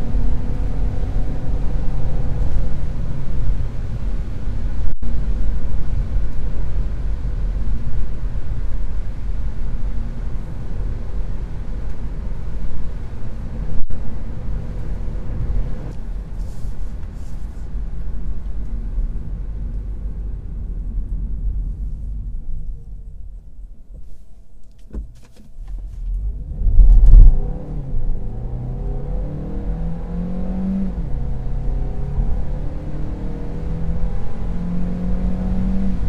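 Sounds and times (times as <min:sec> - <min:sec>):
low road rumble: 0:00.0 - 0:36.0.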